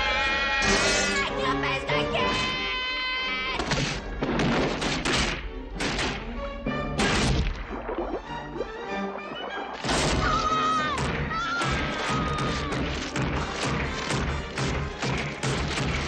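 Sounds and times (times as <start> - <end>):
tense orchestral music: 0.0 - 16.0.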